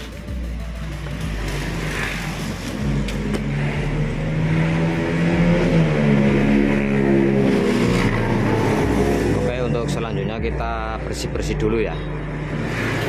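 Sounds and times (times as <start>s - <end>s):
background music with deep bass: 0.0s - 13.0s.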